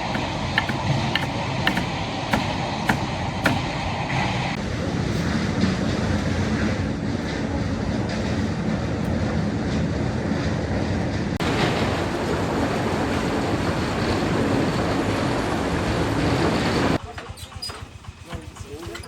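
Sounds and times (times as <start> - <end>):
concrete mixer rumbling: 0.0 - 19.0.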